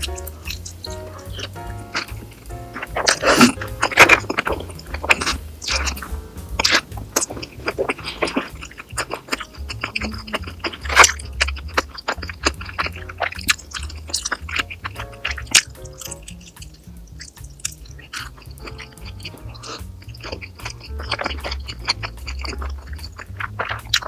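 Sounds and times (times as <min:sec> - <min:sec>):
background music: 0:00.0 - 0:24.0
chewing with crunchy clicks: 0:00.0 - 0:24.0.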